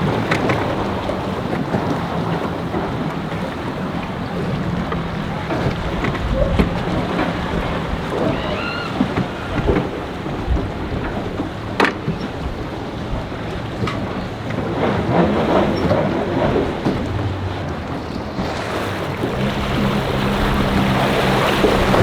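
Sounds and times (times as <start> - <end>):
low hum of boat engines: 0.0 - 22.0
water noise: 0.0 - 22.0
wind: 0.0 - 22.0.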